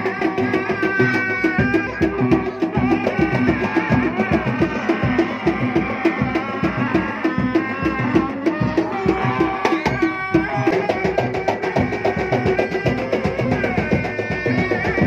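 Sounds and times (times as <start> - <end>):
fast steady drumming: 0.0 - 15.0.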